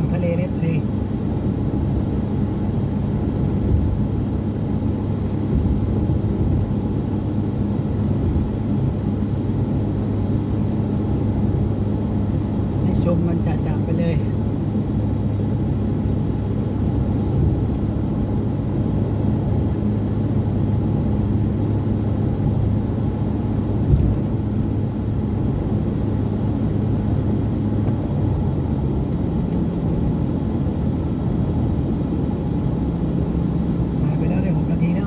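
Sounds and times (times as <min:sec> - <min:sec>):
car engine hum: 0:00.0 - 0:35.0
road rumble: 0:00.0 - 0:35.0.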